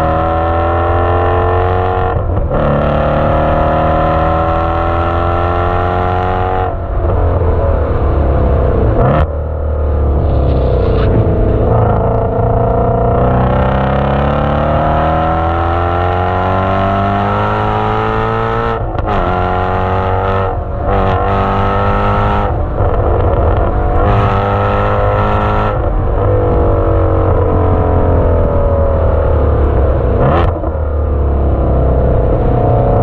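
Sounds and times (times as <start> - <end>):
car engine revving under full throttle: 0.0 - 33.0.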